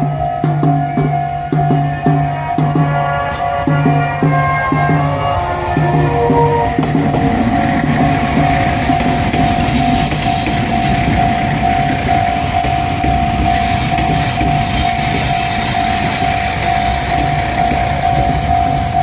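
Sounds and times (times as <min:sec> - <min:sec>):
diesel train rumbling: 0:00.0 - 0:19.0
railroad crossing alarm ringing: 0:00.0 - 0:19.0.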